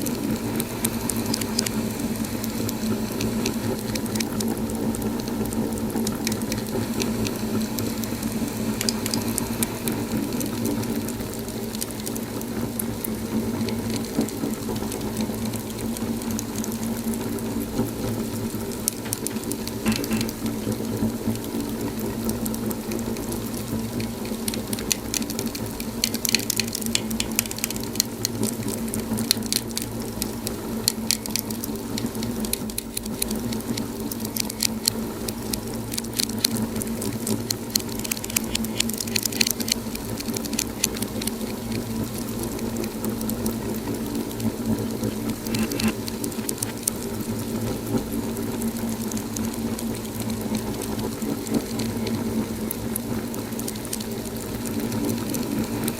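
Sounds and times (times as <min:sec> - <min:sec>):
fire crackling: 0:00.0 - 0:55.9.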